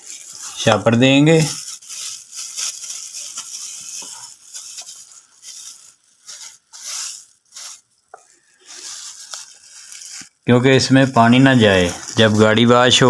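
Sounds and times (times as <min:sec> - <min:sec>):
plastic rustling and scraping: 0:00.0 - 0:13.0.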